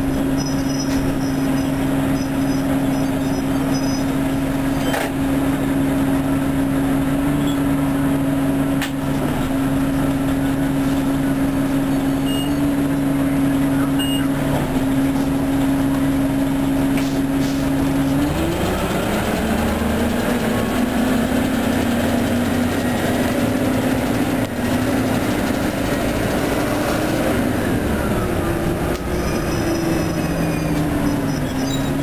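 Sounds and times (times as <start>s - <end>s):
bus engine humming: 0.0s - 32.0s
faint engine whines: 0.0s - 32.0s.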